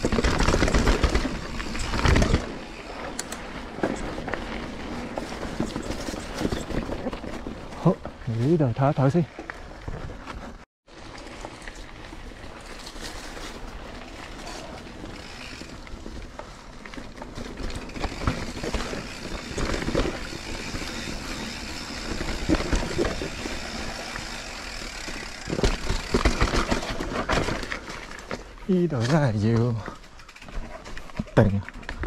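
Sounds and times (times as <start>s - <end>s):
bike knocks and rattles: 0.0s - 10.6s, 12.7s - 32.0s
bike tyres on rocky ground: 0.0s - 32.0s.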